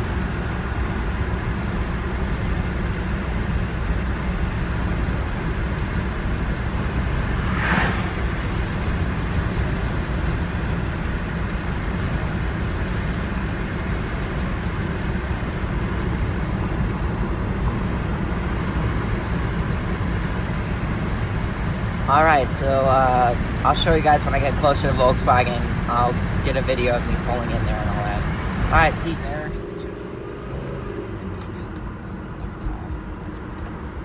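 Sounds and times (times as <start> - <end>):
car cabin road and engine rumble: 0.0 - 34.0.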